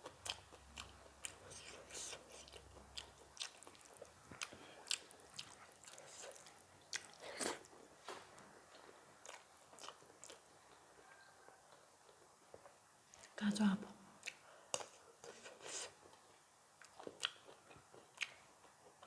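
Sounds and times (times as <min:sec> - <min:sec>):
chewing and crunching food: 0:00.0 - 0:13.4, 0:14.1 - 0:19.0.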